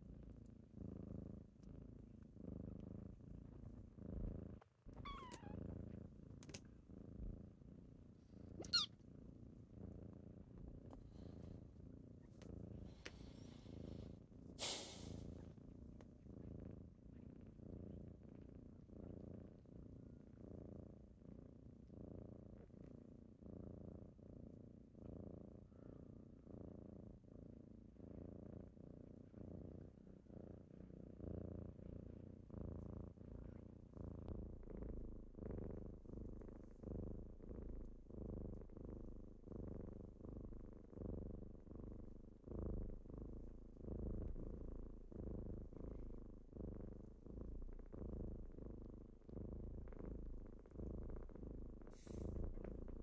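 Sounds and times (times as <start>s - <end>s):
kitten purring: 0.0s - 53.0s.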